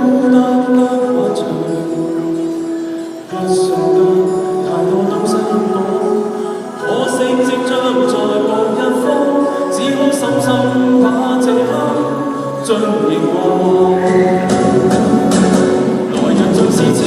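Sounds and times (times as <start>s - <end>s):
a cappella group singing: 3.3s - 17.0s.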